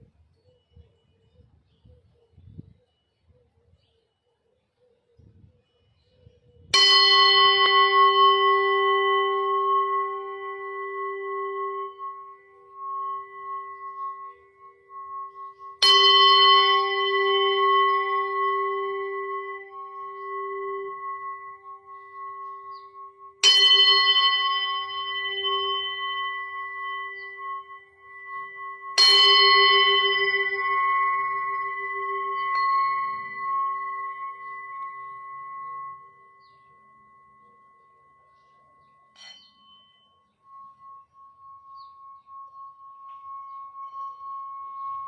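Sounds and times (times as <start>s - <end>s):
singing bowl ringing: 6.7s - 45.0s.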